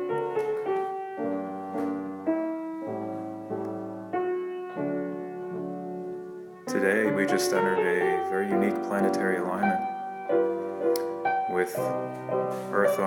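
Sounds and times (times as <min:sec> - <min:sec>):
slow gentle piano notes: 0:00.0 - 0:13.0.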